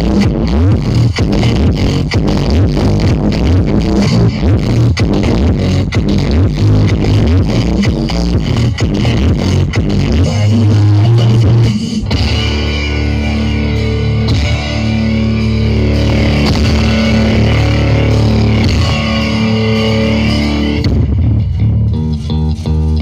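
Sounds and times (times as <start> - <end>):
guitar music with heavy bass: 0.0 - 23.0
pounding beat: 0.0 - 23.0.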